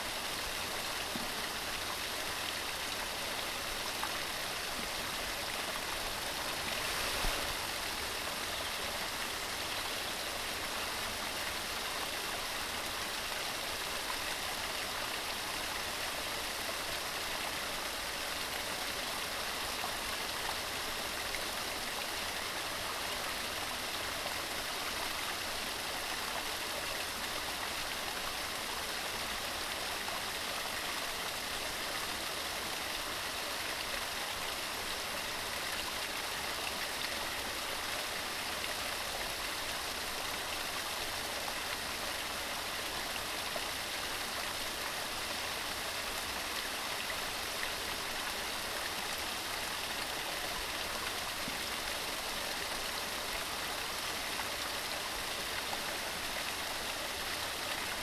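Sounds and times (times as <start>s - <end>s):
mountain stream rushing over rocks: 0.0s - 58.0s.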